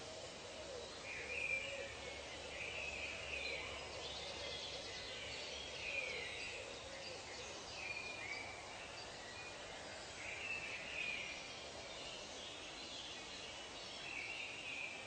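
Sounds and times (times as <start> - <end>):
background hiss of ambience: 0.0 - 15.0.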